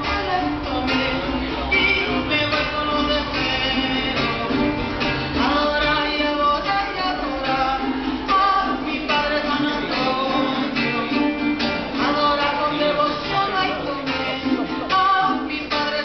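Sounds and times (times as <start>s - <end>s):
strummed acoustic strings: 0.0s - 16.0s
woman singing folk song: 0.0s - 16.0s.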